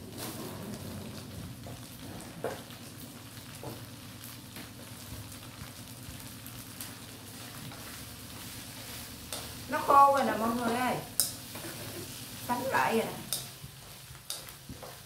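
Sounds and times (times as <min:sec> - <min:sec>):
eggs sizzling in a pan: 0:00.0 - 0:15.0.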